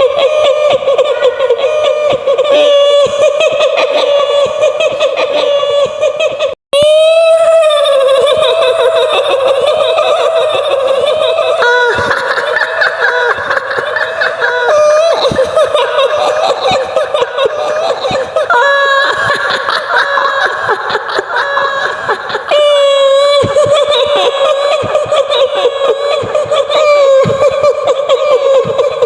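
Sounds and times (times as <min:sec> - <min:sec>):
higher-pitched laughing layers: 0:00.0 - 0:29.0
woman's shrill cackling laughter: 0:00.0 - 0:29.0.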